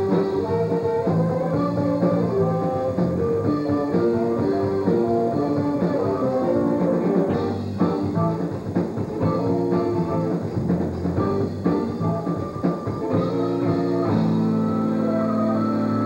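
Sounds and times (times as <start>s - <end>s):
bass: 0.0s - 16.0s
drum kit: 0.0s - 16.0s
electric guitars: 0.0s - 16.0s.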